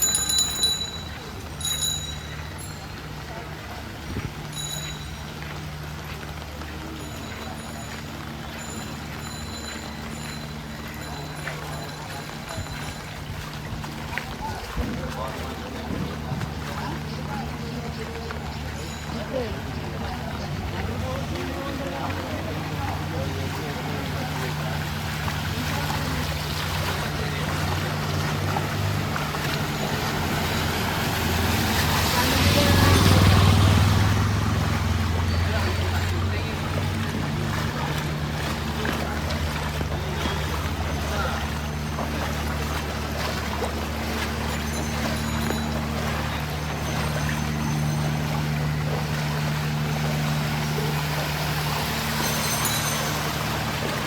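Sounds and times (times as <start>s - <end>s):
street noise: 0.0s - 54.0s
vehicle engine humming: 0.0s - 54.0s
water noise: 0.0s - 54.0s.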